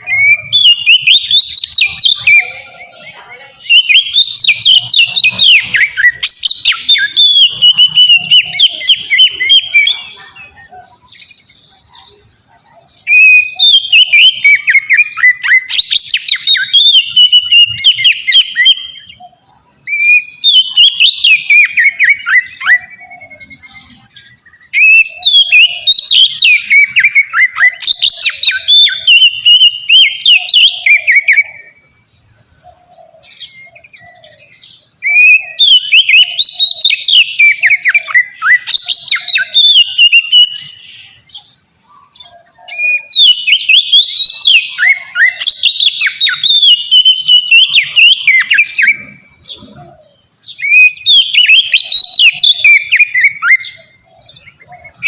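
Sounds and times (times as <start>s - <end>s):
bird singing whistled phrases: 0.0s - 55.0s.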